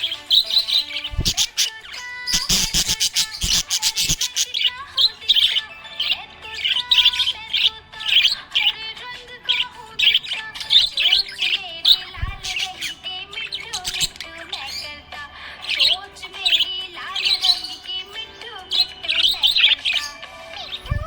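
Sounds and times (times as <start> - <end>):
parrots chirping: 0.0 - 21.0.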